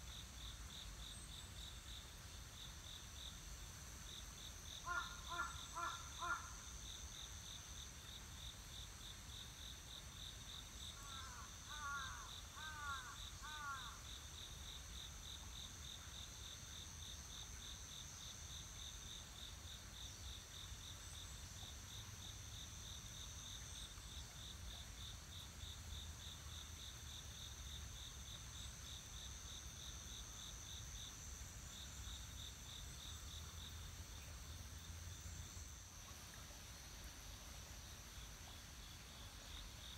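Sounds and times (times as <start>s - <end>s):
insect high-pitched buzz: 4.0s - 39.9s.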